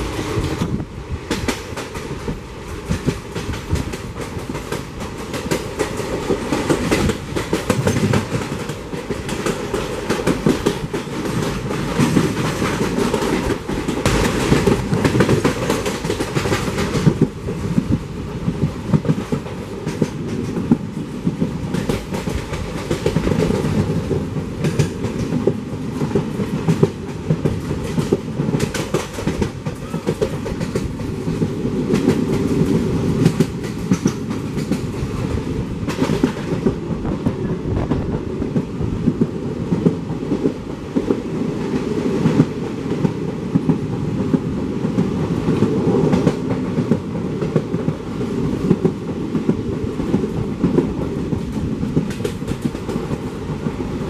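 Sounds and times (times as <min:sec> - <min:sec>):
train wheels clickety-clack: 0:00.0 - 0:54.0.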